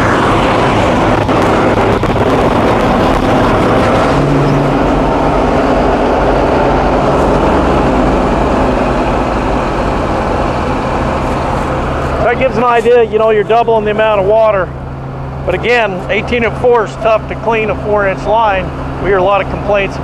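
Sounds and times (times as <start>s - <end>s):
engine droning: 0.0s - 20.0s
water jet rushing through pipe: 0.0s - 20.0s.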